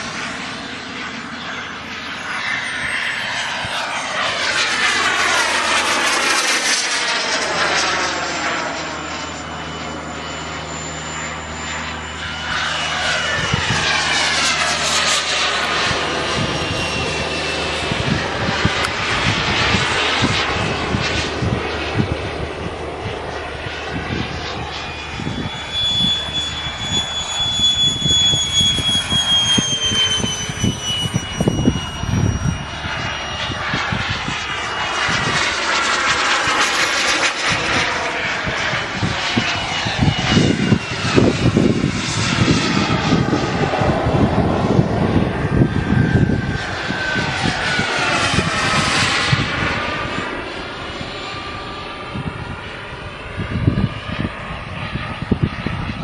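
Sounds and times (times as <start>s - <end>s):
model jet turbine flying by: 0.0s - 56.0s
wind buffeting microphone: 0.0s - 56.0s.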